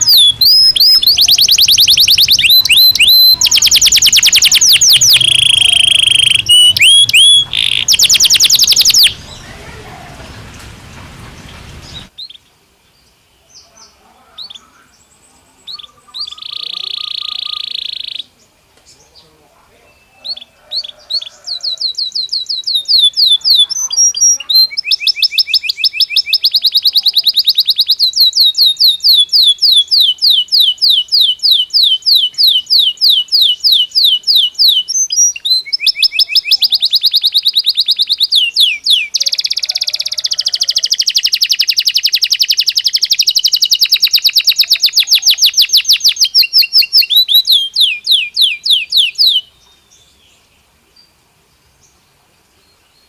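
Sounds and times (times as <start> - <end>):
canary singing trills: 0.0 - 10.6, 13.5 - 18.4, 19.0 - 50.2.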